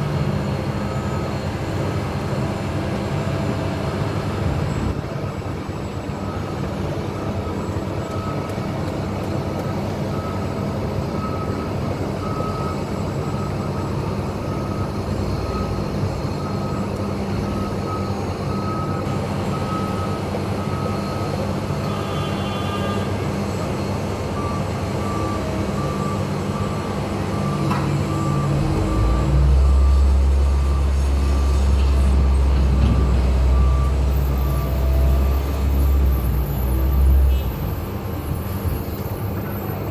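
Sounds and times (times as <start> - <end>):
reversing alarm beeping: 0.0 - 3.4, 4.6 - 39.9
lower reversing alarm: 0.0 - 4.0, 9.6 - 39.0
diesel engine running: 0.0 - 39.9.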